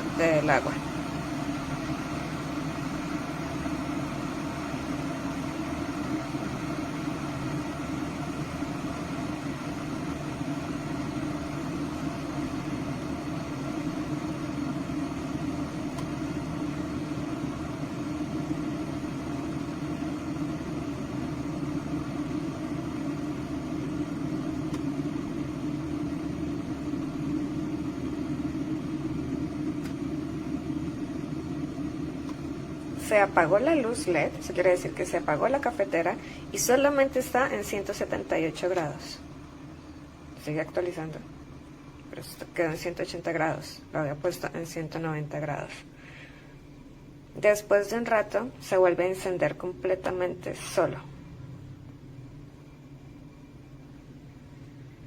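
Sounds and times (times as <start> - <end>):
electric kettle heating water: 0.0 - 55.0.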